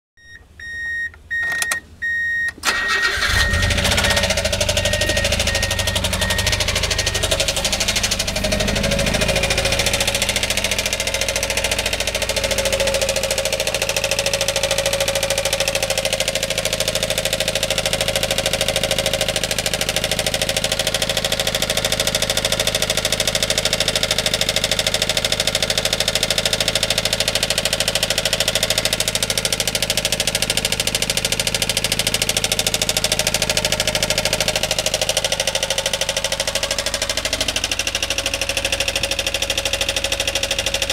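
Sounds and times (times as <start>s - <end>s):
van engine running: 0.4s - 40.9s
fast ticking engine knock: 3.3s - 40.9s.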